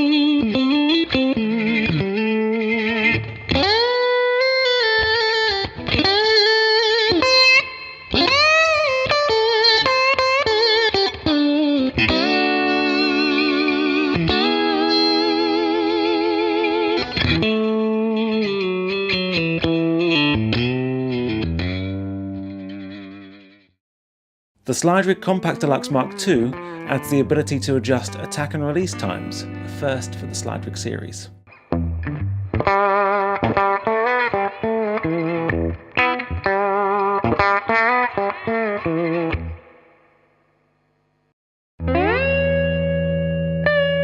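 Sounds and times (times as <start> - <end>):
electric slide guitar: 0.0 - 23.5, 25.6 - 39.8, 41.8 - 44.0.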